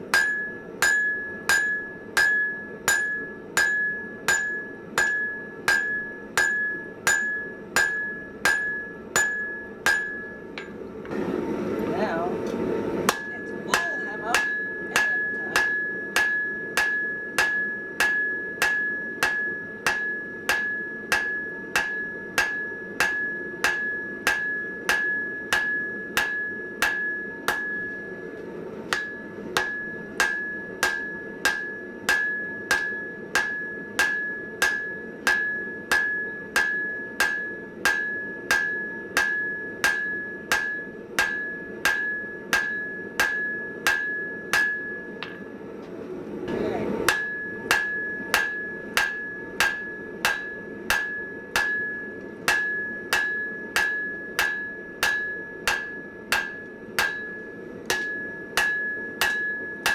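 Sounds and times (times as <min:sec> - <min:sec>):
anvil ringing: 0:00.0 - 0:10.8, 0:13.1 - 0:28.3, 0:28.9 - 0:45.4, 0:47.1 - 0:59.9
hammer blows on hot steel: 0:00.0 - 0:11.3, 0:13.0 - 0:45.4, 0:46.5 - 0:59.9.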